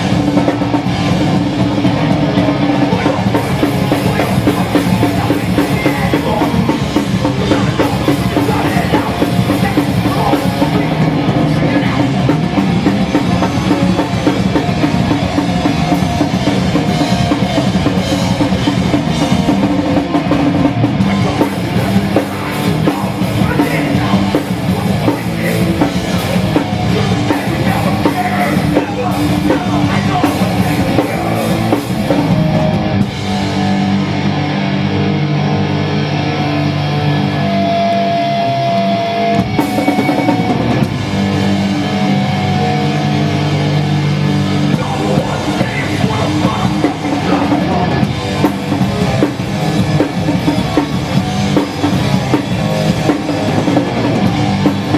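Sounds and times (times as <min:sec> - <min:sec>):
distorted guitars ringing: 0:00.0 - 0:54.9
punk band playing live: 0:00.0 - 0:54.9.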